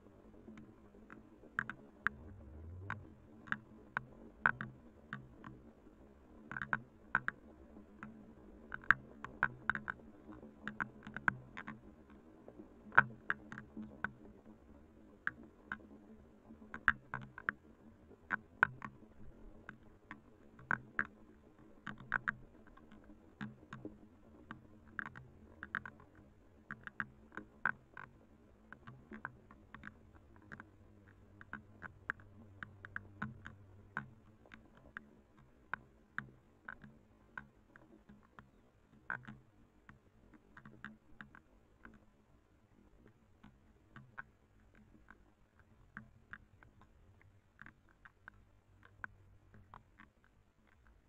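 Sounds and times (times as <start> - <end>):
faint low hum: 0.0 - 51.0
raindrops ticking: 0.0 - 51.0.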